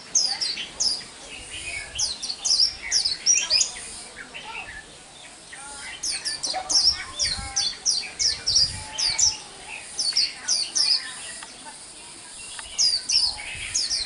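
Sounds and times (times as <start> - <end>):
bird twittering song: 0.0 - 14.0.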